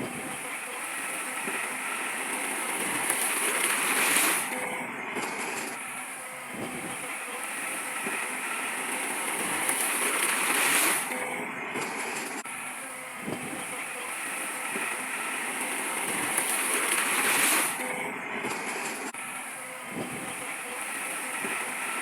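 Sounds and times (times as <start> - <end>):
heavy earth-moving machinery running: 0.0 - 22.0.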